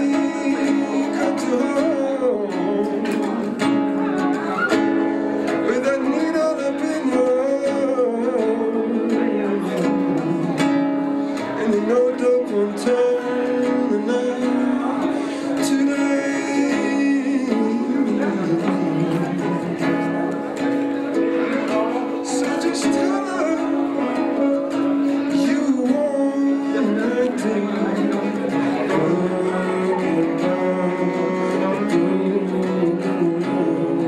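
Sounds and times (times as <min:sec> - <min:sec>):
acoustic guitar: 0:00.0 - 0:34.0
man singing: 0:00.0 - 0:34.0.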